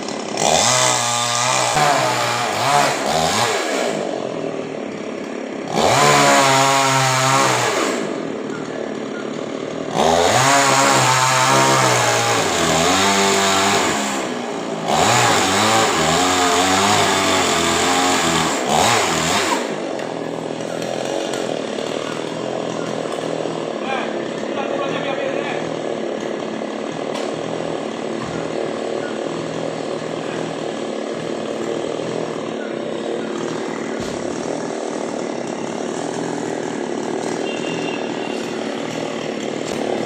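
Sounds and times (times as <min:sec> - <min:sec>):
chainsaw engine revving: 0:00.0 - 0:40.0.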